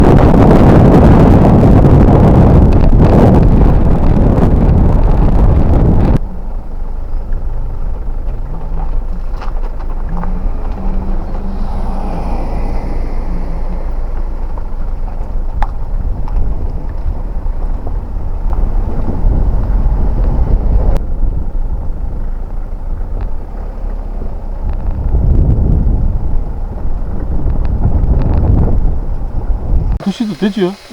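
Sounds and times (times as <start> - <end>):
wind buffeting microphone: 0.0 - 30.0
car driving rumble: 0.0 - 30.9.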